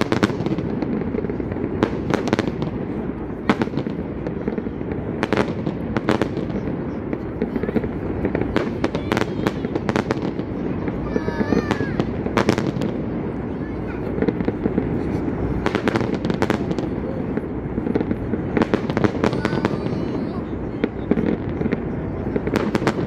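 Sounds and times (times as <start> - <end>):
background chatter: 0.0 - 23.0
fireworks bursting: 0.0 - 23.0.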